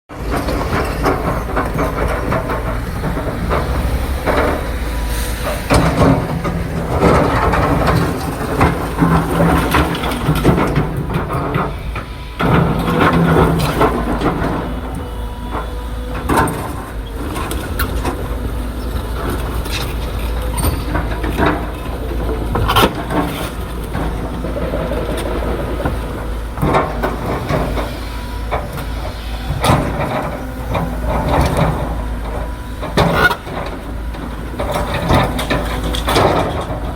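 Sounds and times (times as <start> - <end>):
excavator engine droning: 0.1 - 36.9
metal clanks and knocks: 0.2 - 36.9.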